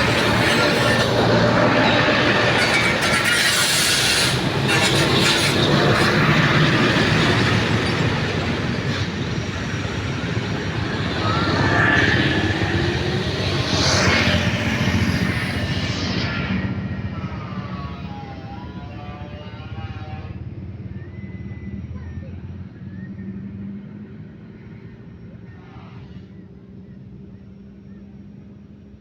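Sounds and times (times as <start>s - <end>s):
heavy diesel engines running: 0.0s - 29.0s.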